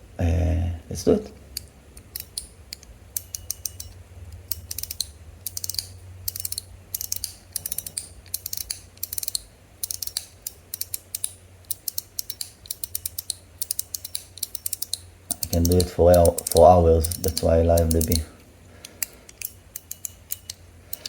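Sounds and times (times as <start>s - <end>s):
metal fidget toy clicking: 1.6s - 18.3s, 19.0s - 21.0s.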